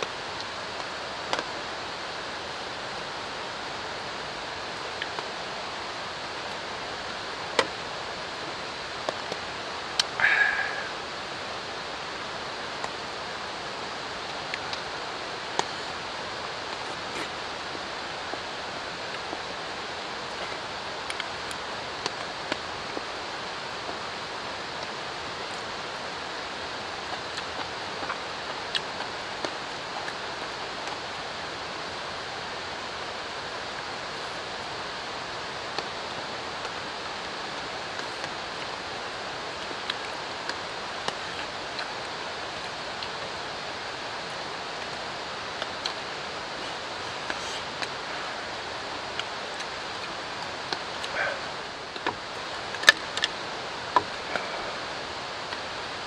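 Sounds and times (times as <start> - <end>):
drizzling rain: 0.0 - 56.0.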